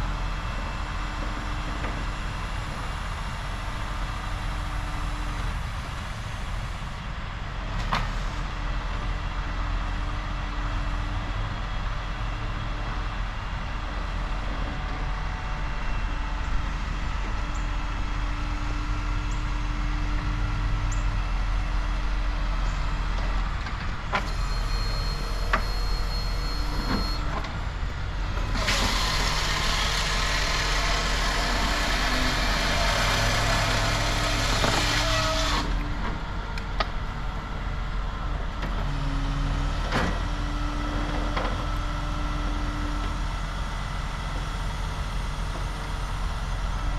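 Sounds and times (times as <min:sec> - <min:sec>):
truck engine running: 0:08.5 - 0:46.9.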